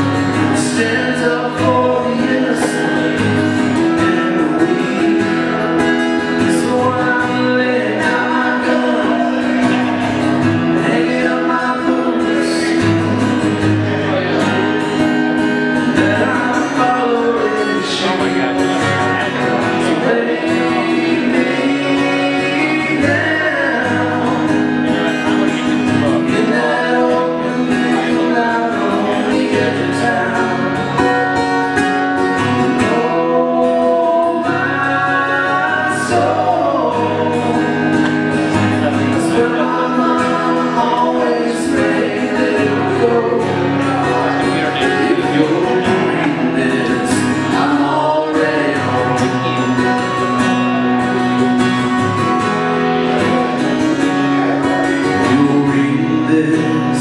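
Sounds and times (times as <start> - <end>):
acoustic guitars playing: 0.0 - 57.0
man singing: 0.0 - 57.0.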